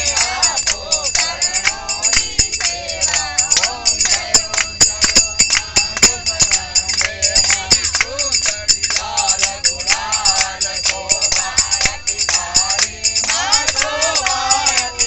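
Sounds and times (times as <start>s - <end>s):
group singing devotional song: 0.0s - 15.0s
hand-clapping on the beat: 0.0s - 15.0s.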